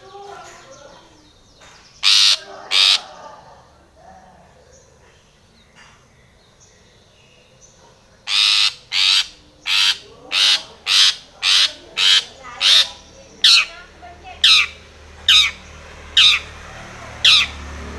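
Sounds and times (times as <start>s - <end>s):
bird harsh calls: 0.0s - 3.7s, 4.5s - 17.9s.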